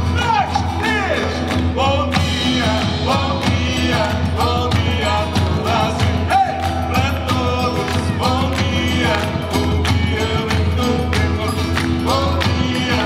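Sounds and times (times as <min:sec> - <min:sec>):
instrumental accompaniment with beat: 0:00.0 - 0:13.0.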